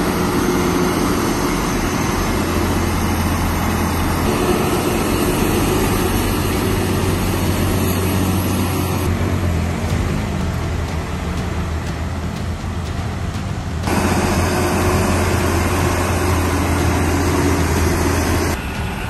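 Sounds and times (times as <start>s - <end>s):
diesel truck engine hum: 0.0s - 19.0s
road noise: 0.0s - 19.0s.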